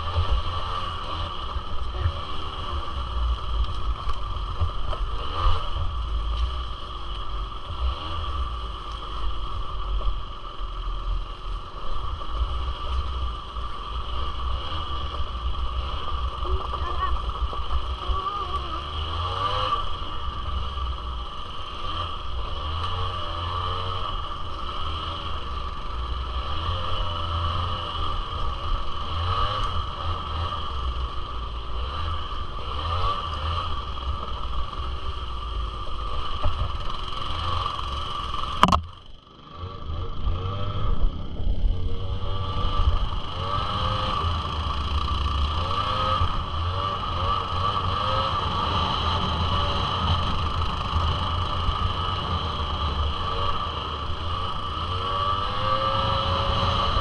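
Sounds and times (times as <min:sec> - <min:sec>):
small two-stroke engine running: 0:00.0 - 0:57.0.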